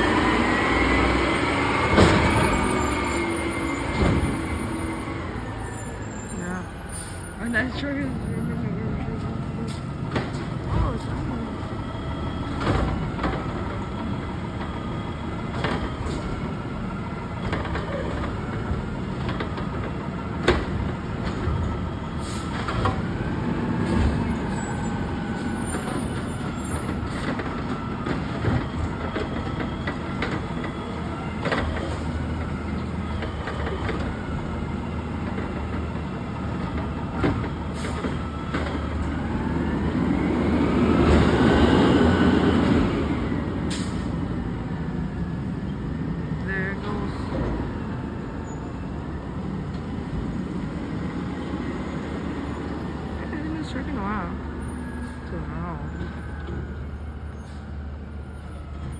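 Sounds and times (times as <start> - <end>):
diesel engine running: 0.0 - 57.4.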